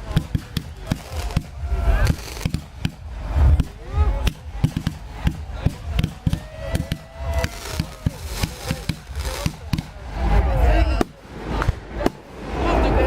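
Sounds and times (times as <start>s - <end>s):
fireworks bangs and cracks: 0.0s - 12.6s
deep fireworks rumble: 0.0s - 13.0s.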